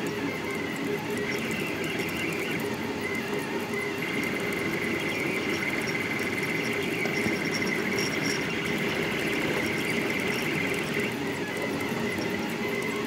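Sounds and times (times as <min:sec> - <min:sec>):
three d printer motors buzzing: 0:00.0 - 0:13.0.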